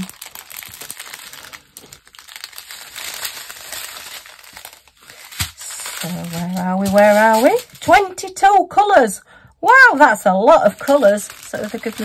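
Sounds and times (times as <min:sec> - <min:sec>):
plastic bags crinkling: 0:00.0 - 0:08.4, 0:09.8 - 0:12.0.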